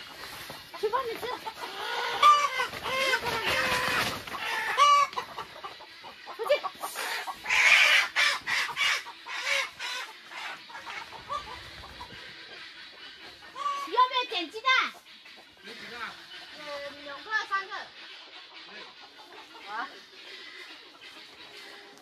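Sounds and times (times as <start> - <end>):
hens clucking and squawking: 0.0 - 22.0.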